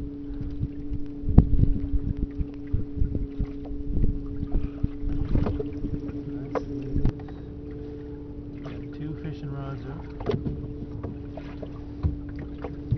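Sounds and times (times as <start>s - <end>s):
boat motor humming: 0.0s - 12.9s
wind buffeting microphone: 0.0s - 12.9s.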